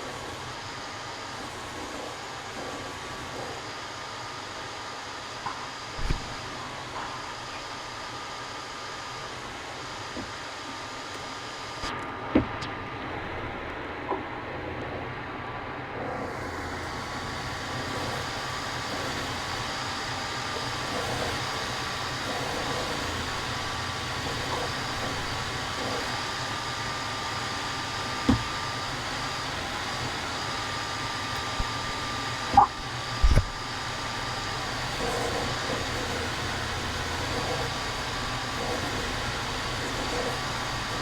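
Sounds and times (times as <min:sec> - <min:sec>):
motor whirring with whine: 0:00.0 - 0:41.0.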